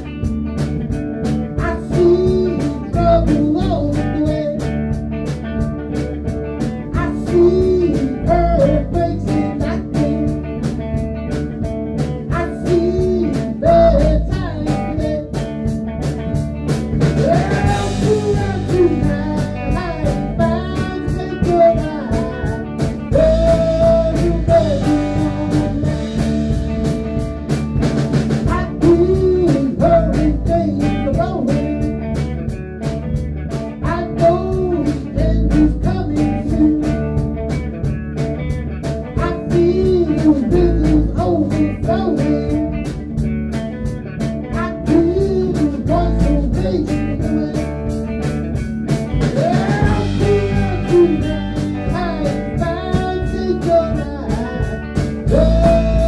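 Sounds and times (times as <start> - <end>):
bass guitar: 0.0 - 56.0
drum kit steady beat: 0.0 - 56.0
electric guitar lead lines: 0.0 - 56.0.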